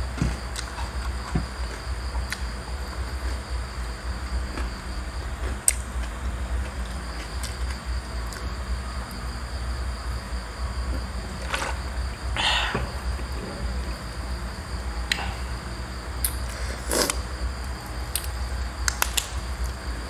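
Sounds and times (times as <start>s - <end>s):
steady low hum: 0.0s - 20.0s
thin high whine: 0.0s - 20.0s.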